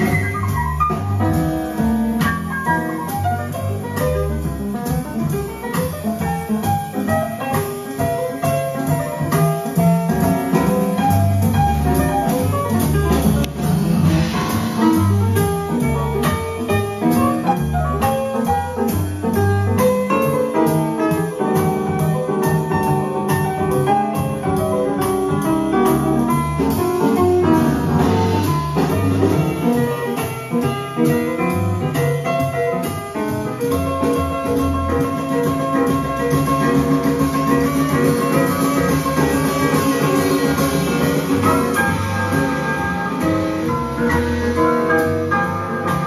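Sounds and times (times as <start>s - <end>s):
instrumental piano music with beat: 0.0s - 46.0s.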